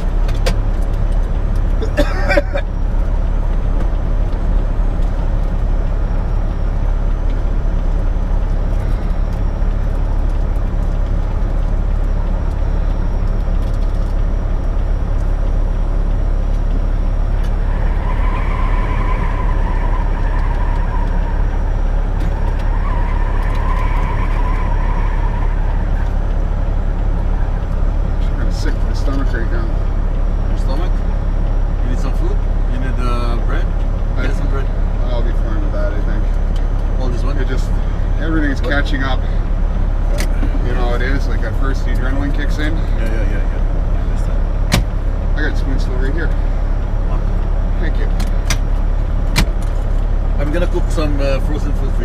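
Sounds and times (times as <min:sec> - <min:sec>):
semi-truck engine rumble: 0:00.0 - 0:52.0.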